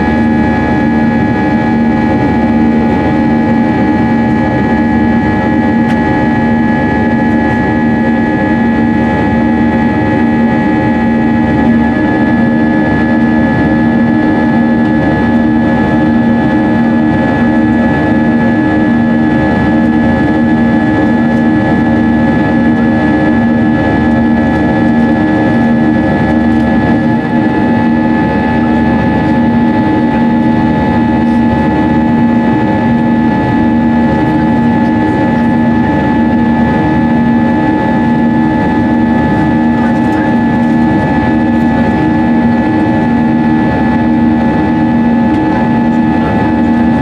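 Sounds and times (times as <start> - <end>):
aircraft cabin engine drone: 0.0 - 47.0.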